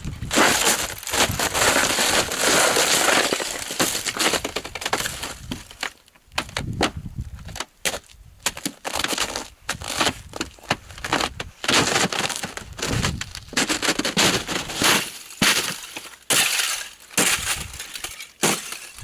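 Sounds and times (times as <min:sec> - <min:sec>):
ice crunching and cracking: 0:00.2 - 0:06.7, 0:07.4 - 0:19.0.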